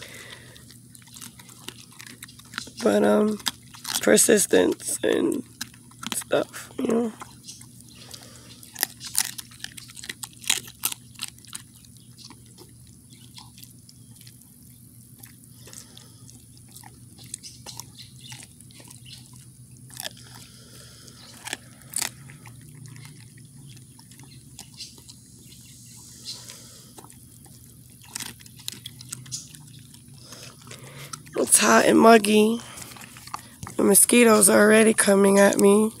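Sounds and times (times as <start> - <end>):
dog chewing meat and bone: 0.0 - 36.0.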